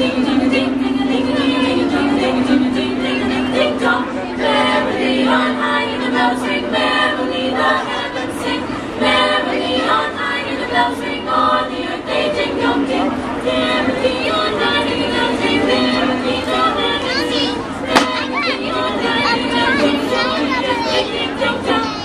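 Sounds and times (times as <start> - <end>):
girls' choir singing: 0.0 - 22.0.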